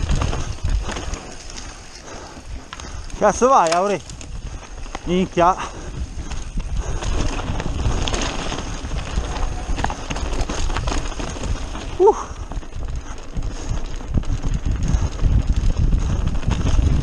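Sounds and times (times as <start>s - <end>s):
tyres crunching on gravel: 0.0s - 14.4s
bike rattling: 0.0s - 17.0s
wind buffeting microphone: 0.0s - 17.0s.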